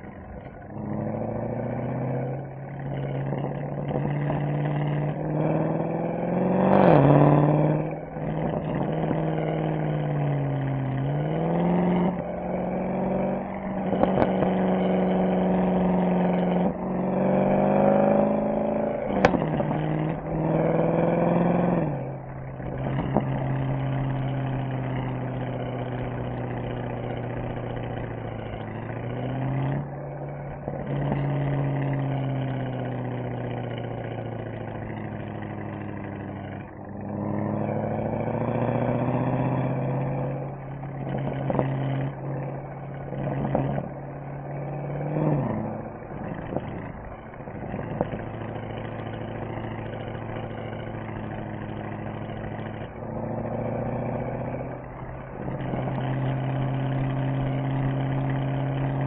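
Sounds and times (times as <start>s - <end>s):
car engine and exhaust revving: 0.0s - 59.0s.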